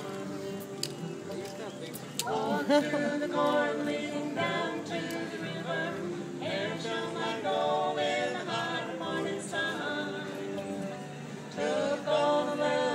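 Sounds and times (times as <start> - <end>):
backing music: 0.0 - 12.9.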